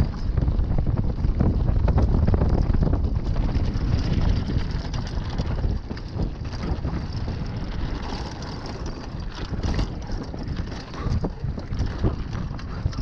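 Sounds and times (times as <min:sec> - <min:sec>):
bike rattling: 0:00.0 - 0:13.0
bike tyre noise: 0:00.0 - 0:13.0
wind buffeting microphone: 0:00.0 - 0:13.0.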